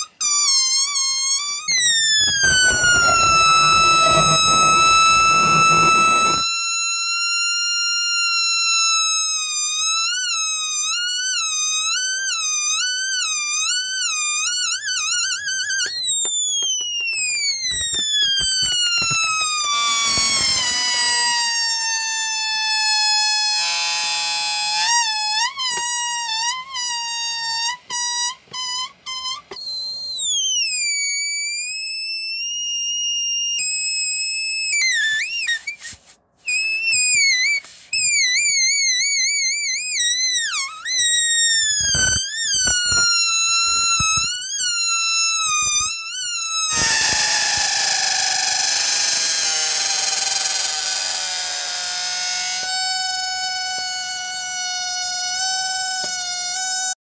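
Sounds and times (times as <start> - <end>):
air squealing out of balloon: 0.3 - 7.2, 14.1 - 57.0.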